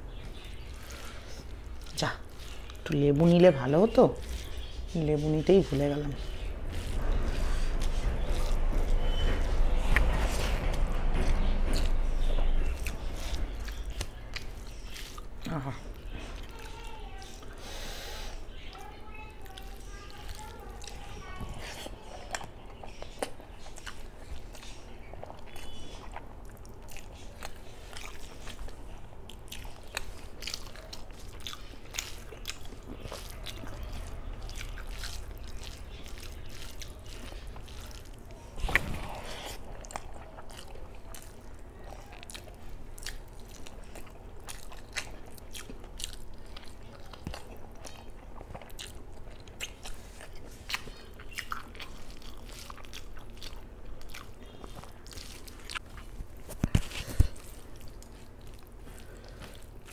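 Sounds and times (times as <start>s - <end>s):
chewing and wet mouth sounds: 0.0s - 59.9s.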